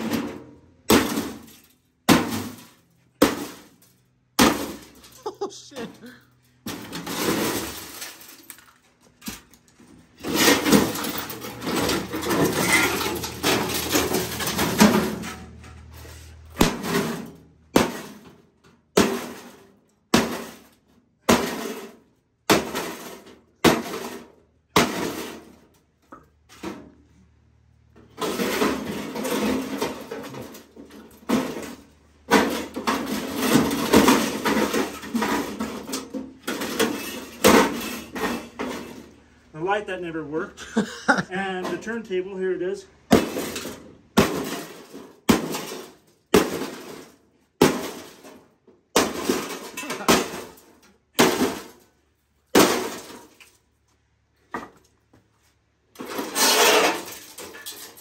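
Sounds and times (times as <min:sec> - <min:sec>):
microwave being smashed: 0:00.0 - 0:15.6, 0:16.5 - 0:25.7, 0:28.0 - 0:39.2, 0:43.1 - 0:51.9, 0:52.5 - 0:53.5, 0:55.9 - 0:58.0
clattering breaking parts: 0:00.0 - 0:27.0, 0:27.8 - 0:39.4, 0:43.1 - 0:53.8, 0:55.9 - 0:58.0.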